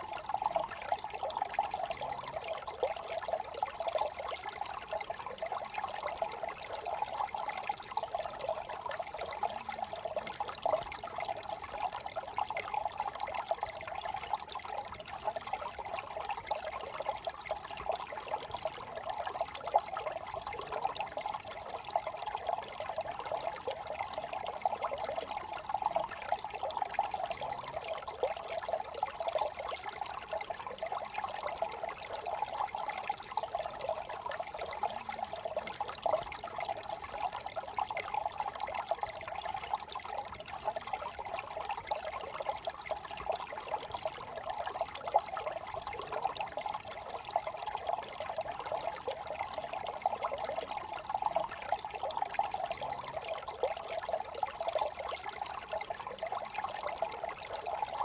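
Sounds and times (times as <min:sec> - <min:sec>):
brook burbling over stones: 0:00.0 - 0:58.0.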